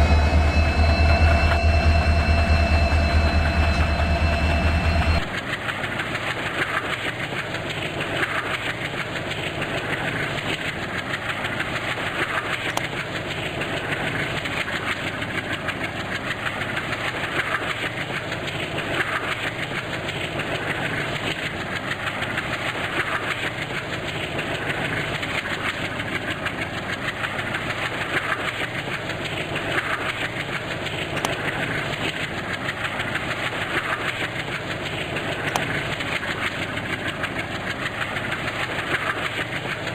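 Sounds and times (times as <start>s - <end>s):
passenger train running: 0.0s - 39.9s.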